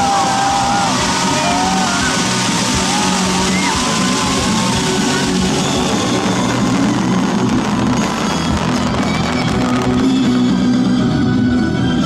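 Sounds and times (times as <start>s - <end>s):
fireworks crackling and popping: 0.0s - 12.0s
loud music: 0.0s - 12.0s.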